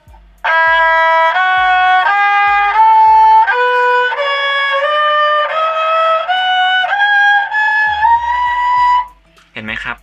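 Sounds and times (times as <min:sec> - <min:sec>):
spike fiddle bowed in a rising scale: 0:00.5 - 0:09.2.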